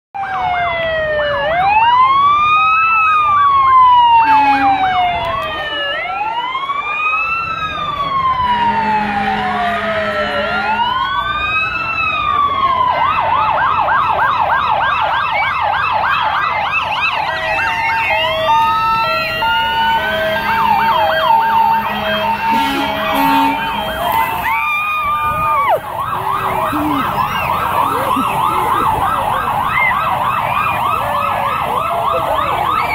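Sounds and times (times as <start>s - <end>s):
fire truck sirens: 0.2s - 32.9s.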